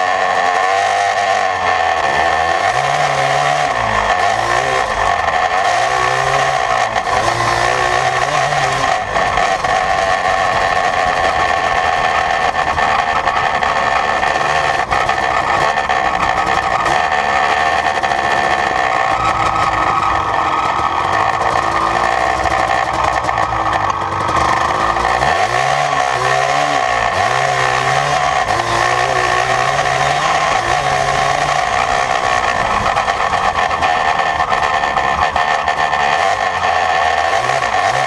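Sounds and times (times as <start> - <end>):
two-stroke engine running loudly: 0.0 - 38.0.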